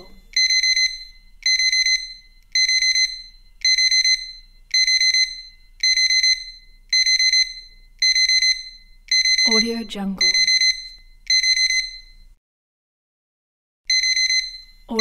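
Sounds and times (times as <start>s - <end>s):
alarm clock beeping: 0.0s - 12.4s, 13.9s - 15.0s.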